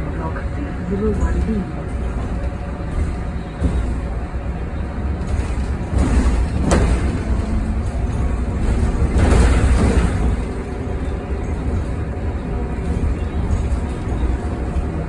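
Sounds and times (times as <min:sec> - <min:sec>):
bus cabin road rumble: 0:00.0 - 0:15.0.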